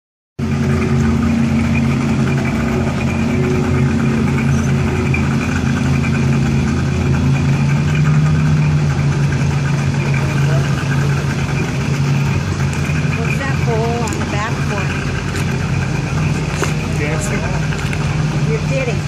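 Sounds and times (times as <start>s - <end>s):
boat engine idling: 0.4s - 19.0s.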